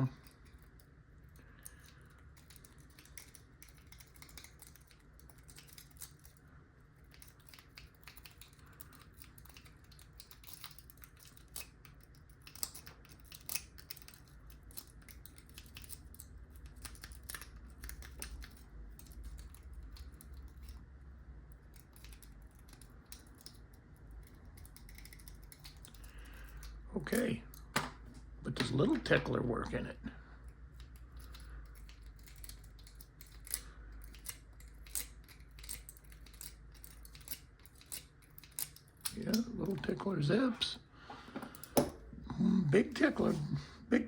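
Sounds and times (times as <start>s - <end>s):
lock pick clicking and scratching: 0.0s - 26.8s, 30.4s - 39.9s.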